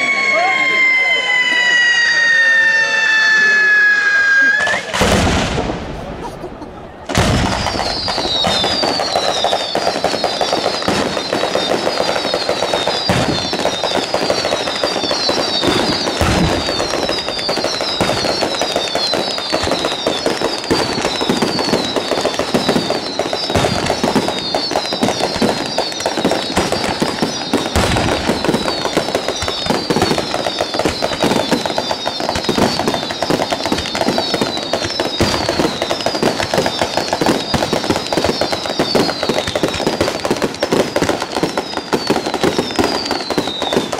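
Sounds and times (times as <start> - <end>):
falling firework whistles: 0.0 - 5.7, 7.1 - 43.9
firecrackers crackling: 0.0 - 43.9
firework bangs: 0.0 - 43.9.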